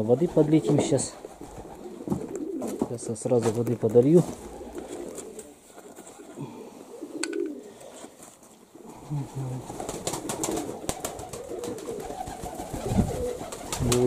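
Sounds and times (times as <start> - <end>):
pigeons cooing: 0.0 - 2.9, 4.2 - 14.0.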